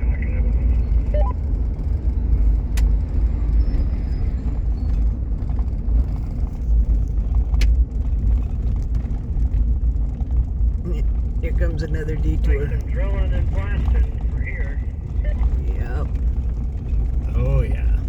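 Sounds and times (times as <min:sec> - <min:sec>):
vehicle tyres and engine rumble: 0:00.0 - 0:18.0.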